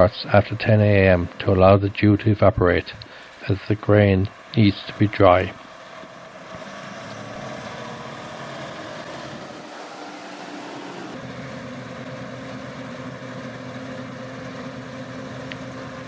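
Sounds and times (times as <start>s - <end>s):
harvest machinery engine running: 0.0s - 16.0s.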